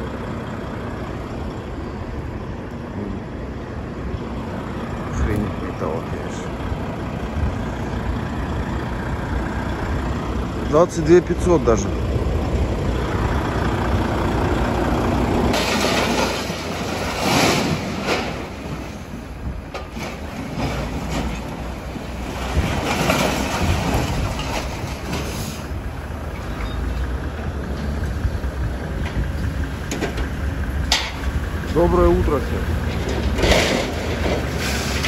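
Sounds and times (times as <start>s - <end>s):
heavy diesel vehicles running: 0.0s - 35.0s.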